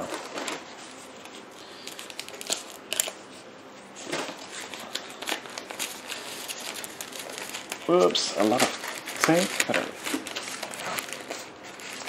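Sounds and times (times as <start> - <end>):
packing paper crinkling: 0.0 - 3.3, 4.1 - 12.0.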